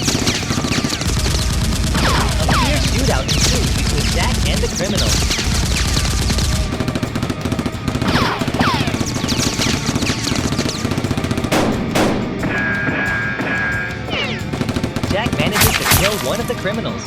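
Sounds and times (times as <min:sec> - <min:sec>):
rapid automatic gunfire: 0:00.0 - 0:16.9.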